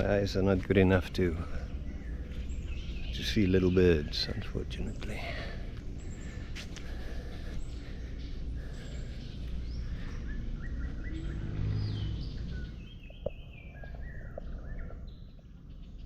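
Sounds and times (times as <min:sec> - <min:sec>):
birds chirping and whistling: 0:00.0 - 0:16.0
steady low rumble: 0:00.0 - 0:16.0.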